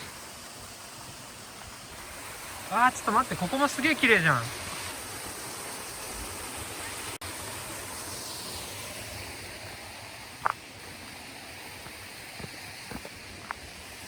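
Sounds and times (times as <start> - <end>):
rushing stream and waterfall: 0.0 - 14.0.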